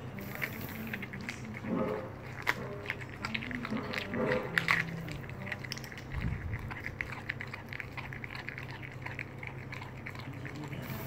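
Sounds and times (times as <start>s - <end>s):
puppy chewing: 0.0s - 11.0s
steady low hum: 0.0s - 11.0s.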